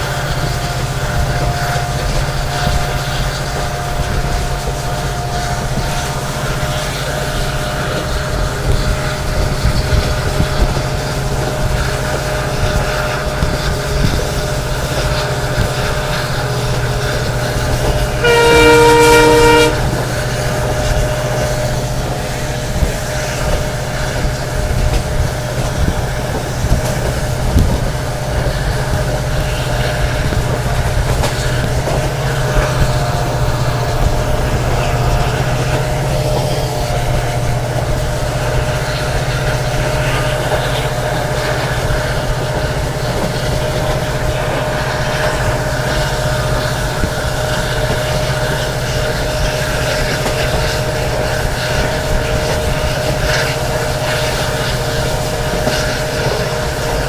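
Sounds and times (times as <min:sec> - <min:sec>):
locomotive horn: 0:00.0 - 0:57.0
low diesel engine hum: 0:00.0 - 0:57.0
train wheels rumbling on track: 0:00.0 - 0:57.0.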